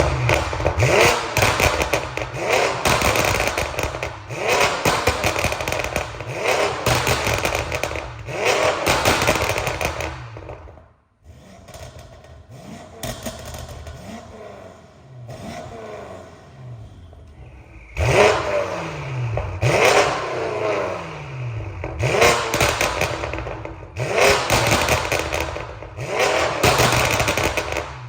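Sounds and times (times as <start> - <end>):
car exhaust popping and crackling: 0.0 - 28.0.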